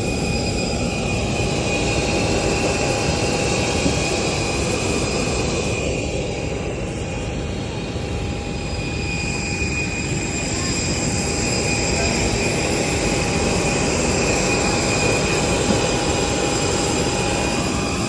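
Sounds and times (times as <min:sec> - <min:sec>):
steady whining tones: 0:00.0 - 0:18.0.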